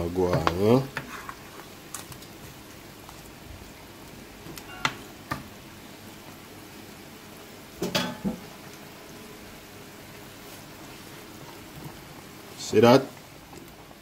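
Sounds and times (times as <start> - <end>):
pot bubbling: 0.0 - 14.0.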